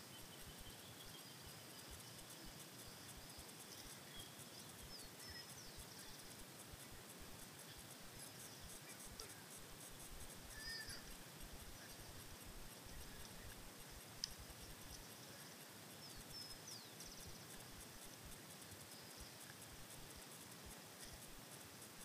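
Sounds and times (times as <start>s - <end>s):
faint steady hiss: 0.0s - 22.0s
small birds chirping: 0.0s - 22.0s.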